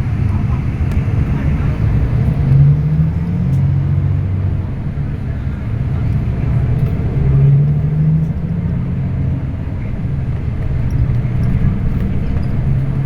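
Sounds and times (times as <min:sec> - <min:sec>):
bus engine droning: 0:00.0 - 0:13.0
road noise: 0:00.0 - 0:13.0.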